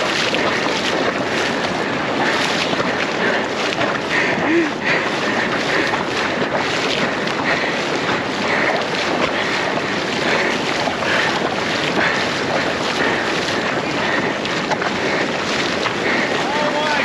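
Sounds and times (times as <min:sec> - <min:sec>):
surf washing in shallows: 0:00.0 - 0:17.0
wind rumbling on microphone: 0:00.0 - 0:17.0.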